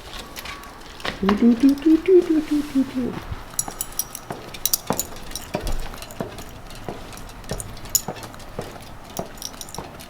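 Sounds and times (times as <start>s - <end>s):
footsteps on hard surface: 0.0s - 10.0s
light metallic jingling: 0.0s - 10.0s.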